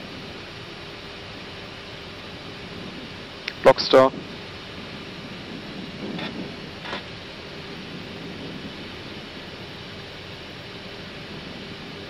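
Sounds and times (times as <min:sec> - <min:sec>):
cockpit air rush: 0:00.0 - 0:12.0
faint steady hum: 0:00.0 - 0:12.0.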